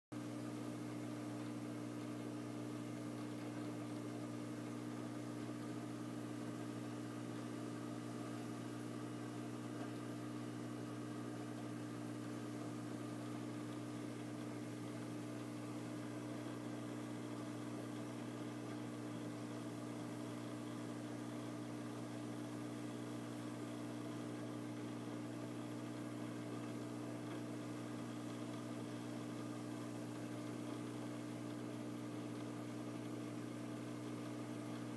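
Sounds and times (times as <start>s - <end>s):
aquarium equipment humming: 0.2s - 34.9s.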